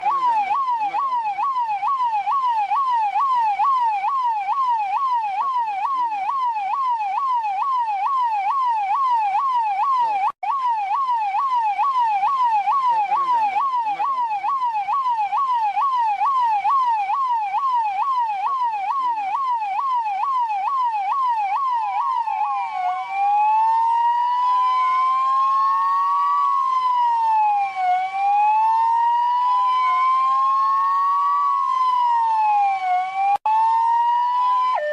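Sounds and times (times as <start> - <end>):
police siren: 0.0 - 34.9.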